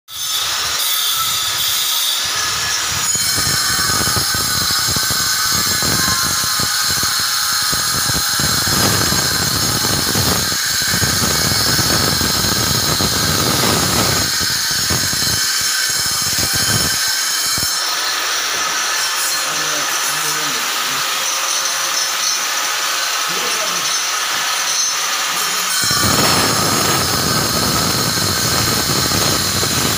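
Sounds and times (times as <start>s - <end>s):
power tool high-pitched whine: 0.1s - 29.9s
coarse grinding on marble: 0.2s - 29.9s.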